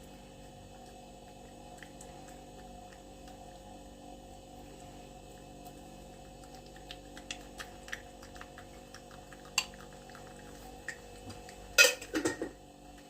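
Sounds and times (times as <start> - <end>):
cat eating from a dish: 0.0 - 13.0
faint electrical hum: 0.0 - 13.0.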